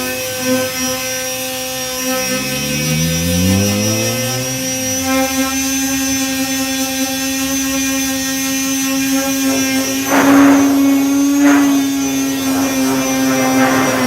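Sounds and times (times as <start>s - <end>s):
electric disc sander running: 0.0s - 14.0s
sanding noise: 1.9s - 14.0s.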